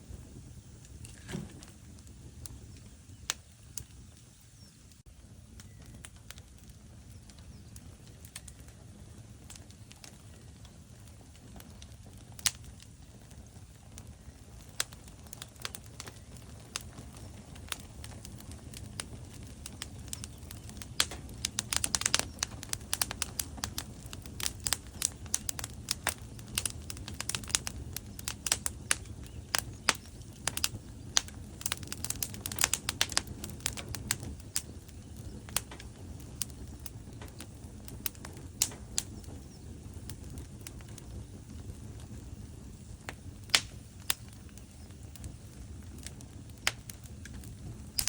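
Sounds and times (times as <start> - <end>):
low rumble of flames: 0.0 - 48.0
logs crackling and popping: 0.1 - 48.0.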